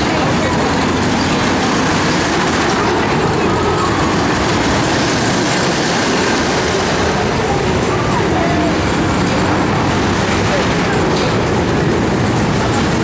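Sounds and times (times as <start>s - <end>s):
crowd chatter: 0.0s - 13.0s
roller coaster rolling on track: 0.0s - 13.0s.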